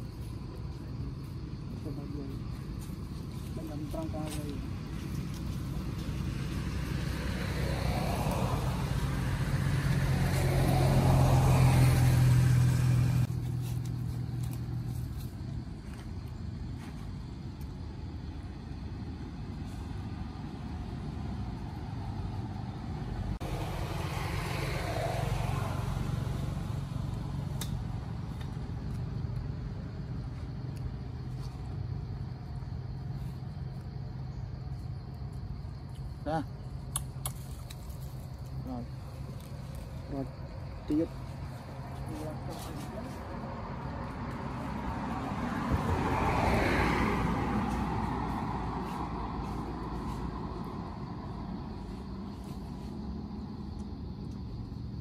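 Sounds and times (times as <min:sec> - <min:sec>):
traffic engine hum: 0:00.0 - 0:55.0.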